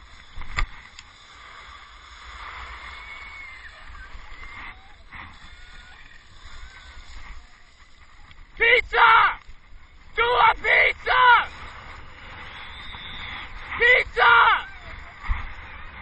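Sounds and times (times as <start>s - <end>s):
skis hissing on snow: 0.0s - 16.0s.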